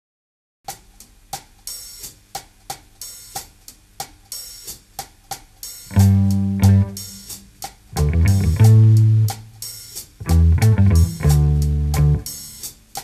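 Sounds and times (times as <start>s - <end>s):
drum kit beat: 0.7s - 13.0s.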